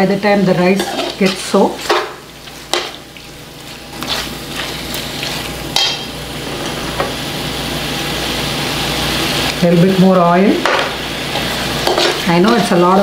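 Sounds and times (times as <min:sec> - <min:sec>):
meat frying in oil: 0:00.0 - 0:13.0.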